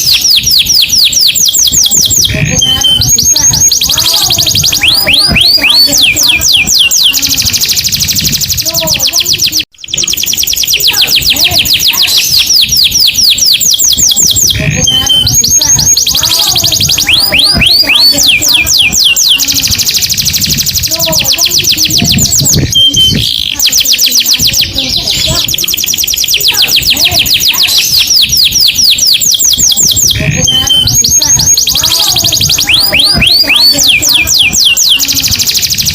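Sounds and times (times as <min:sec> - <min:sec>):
canary singing fast trills: 0:00.0 - 0:35.9.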